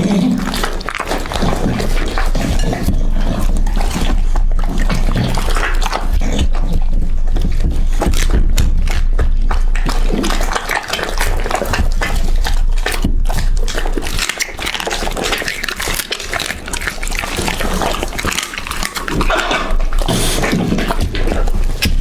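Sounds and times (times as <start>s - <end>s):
dog chewing raw meat: 0.0s - 22.0s.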